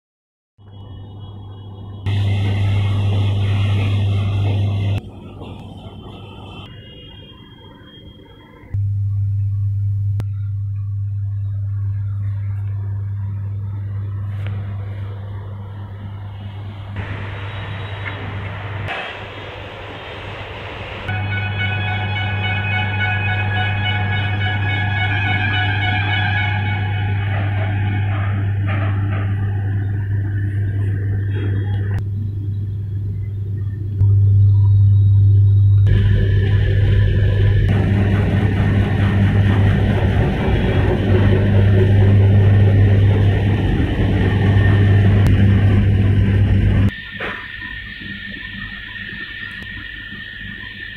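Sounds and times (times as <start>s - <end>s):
diesel generator humming: 0.6s - 50.9s.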